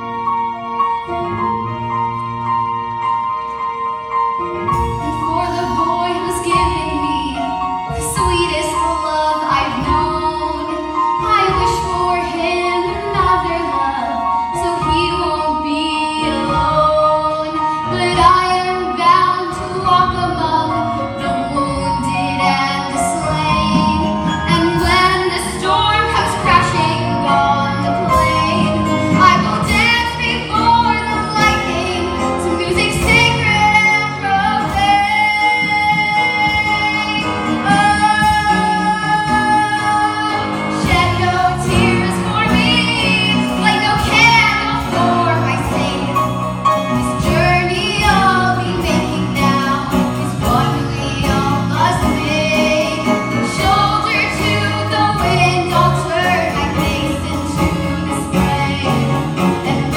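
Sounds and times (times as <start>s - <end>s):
instrumental accompaniment: 0.0s - 59.9s
woman singing: 4.8s - 59.9s.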